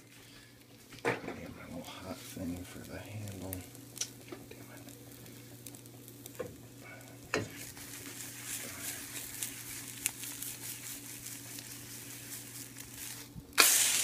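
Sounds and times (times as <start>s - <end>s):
eggs sizzling in butter: 0.0s - 14.0s.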